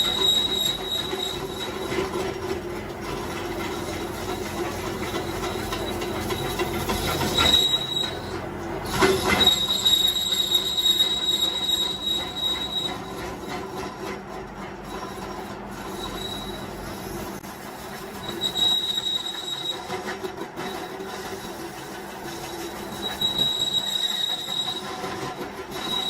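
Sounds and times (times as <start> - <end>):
high steady squeal: 0.0 - 14.1, 14.8 - 26.0
metal screeching and grinding: 0.0 - 26.0.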